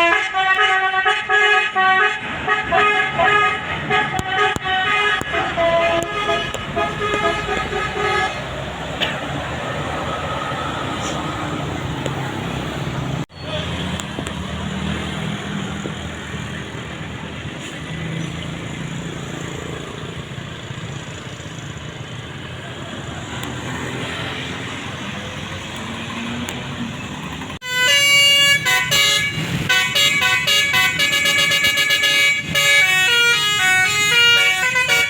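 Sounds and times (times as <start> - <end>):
passing traffic: 0.0 - 35.0.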